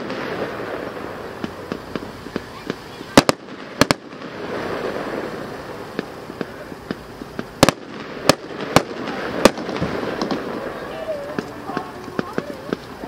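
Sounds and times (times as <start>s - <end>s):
fireworks bangs bursting overhead: 0.0s - 13.0s
fireworks crackling: 0.0s - 13.0s.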